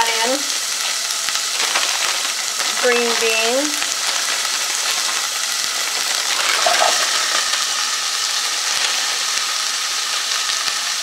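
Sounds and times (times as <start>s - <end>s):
onion sizzling in butter: 0.0s - 11.0s.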